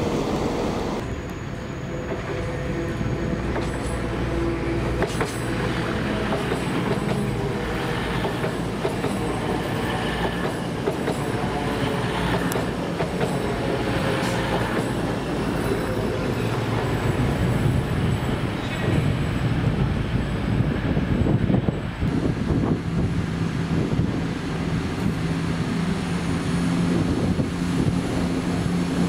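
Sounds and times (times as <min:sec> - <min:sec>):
train engine running: 0:00.0 - 0:29.0.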